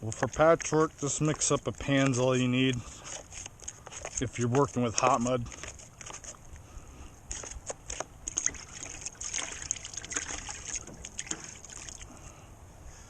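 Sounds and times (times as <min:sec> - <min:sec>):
knife scraping wet compound: 0:00.0 - 0:06.6, 0:07.2 - 0:12.1.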